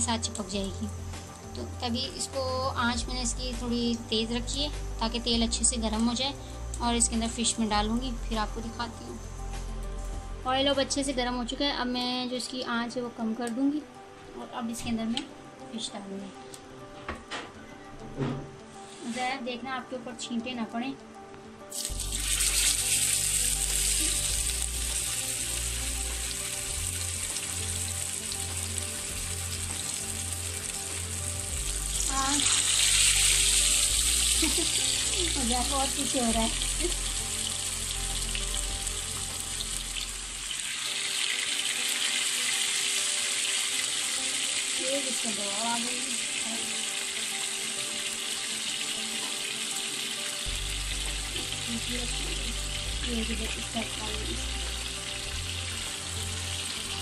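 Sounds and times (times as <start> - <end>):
fish sizzling in hot oil: 0.1 - 11.0, 21.7 - 57.0.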